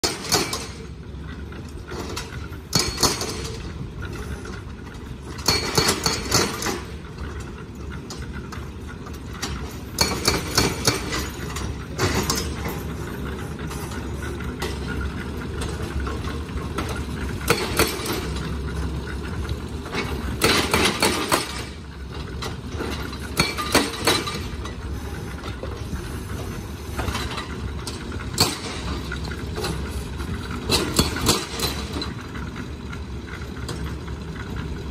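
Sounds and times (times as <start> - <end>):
machinery engine idling: 0.0 - 34.9.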